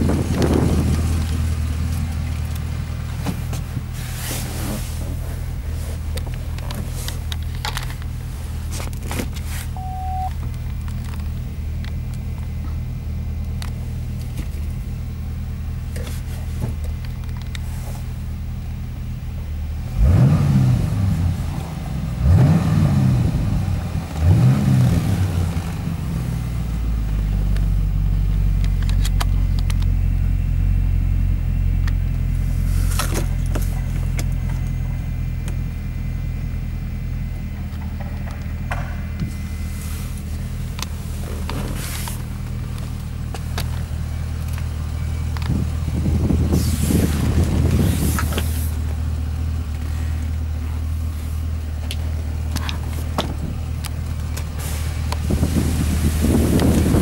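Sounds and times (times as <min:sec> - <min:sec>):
car engine idling: 0:00.0 - 0:57.0
engine throttle blips: 0:00.0 - 0:57.0.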